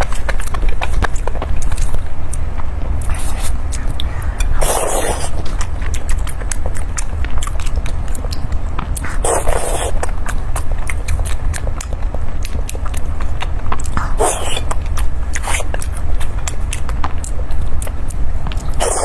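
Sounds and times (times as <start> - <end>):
noisy biting bursts: 0.0 - 19.0
wet chewing and mouth sounds: 0.0 - 19.0.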